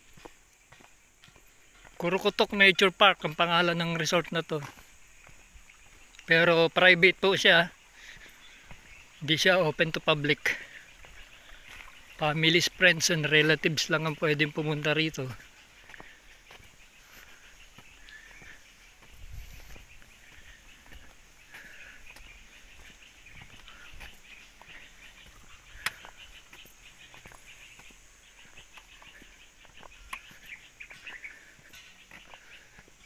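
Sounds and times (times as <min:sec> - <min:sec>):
birds chirping and calling: 0:00.0 - 0:33.0
outdoor background noise: 0:00.0 - 0:33.0.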